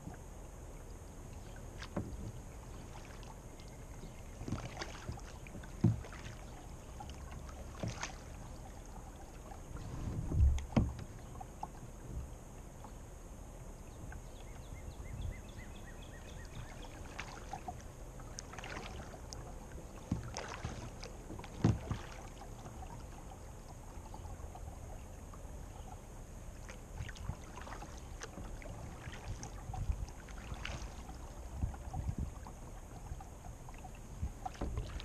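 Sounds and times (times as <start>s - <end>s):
paddle splashes and drips: 0.0s - 35.0s
water lapping at plastic hull: 0.0s - 35.0s.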